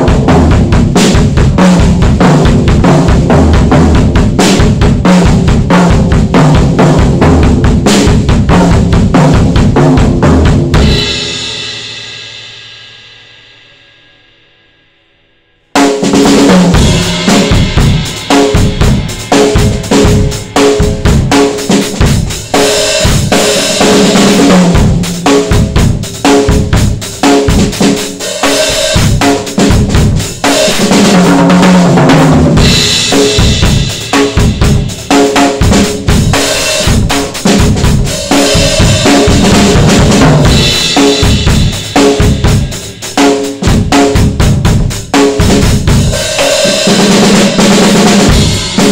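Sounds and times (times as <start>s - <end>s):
drum fills down the toms: 0.0s - 13.1s, 15.8s - 48.9s
drum solo: 0.0s - 14.7s, 15.6s - 48.9s.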